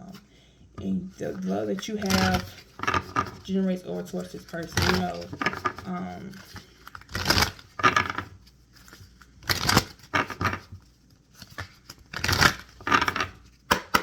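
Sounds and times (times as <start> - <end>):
cards being shuffled: 0.8 - 14.0.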